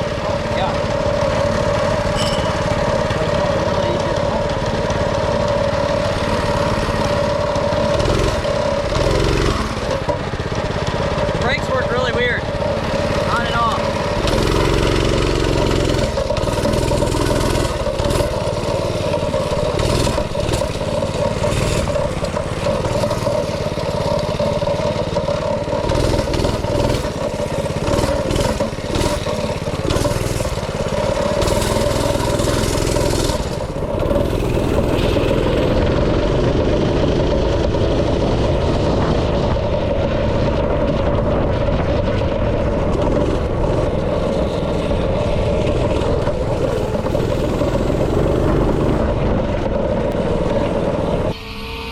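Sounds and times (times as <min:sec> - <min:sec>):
chassis clatter: 0:00.0 - 0:51.4
small engine running: 0:00.0 - 0:51.9.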